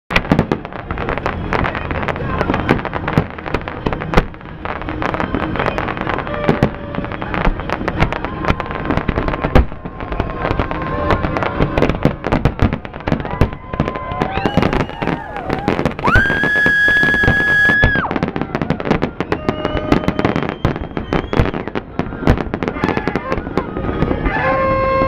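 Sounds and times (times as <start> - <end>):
fireworks bursting with bangs: 0.1 - 25.0
fireworks crackling: 0.1 - 25.0.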